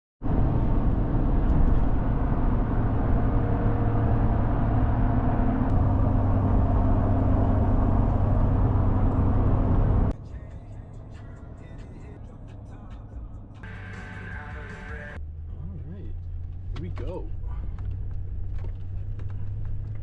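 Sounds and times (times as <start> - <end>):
road noise: 0.2 - 20.0
truck engine hum: 0.2 - 20.0.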